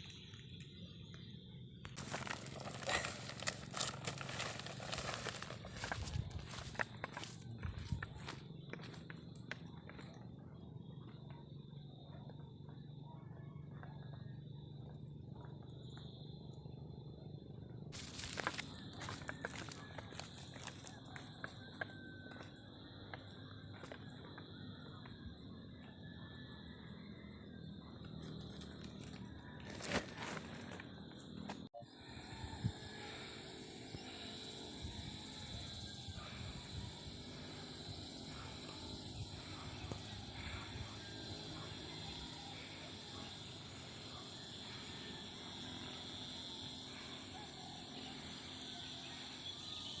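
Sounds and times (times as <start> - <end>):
high insect drone: 0.0 - 13.2, 14.3 - 50.0.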